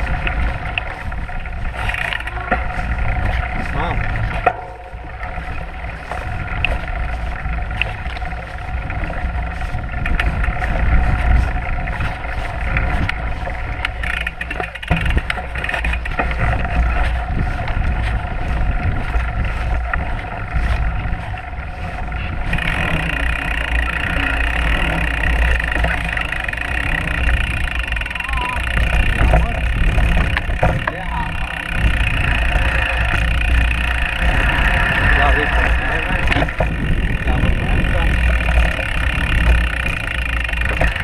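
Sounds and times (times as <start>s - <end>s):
bike tyres rumbling on dirt: 0.0s - 41.0s
constant hum: 0.0s - 41.0s.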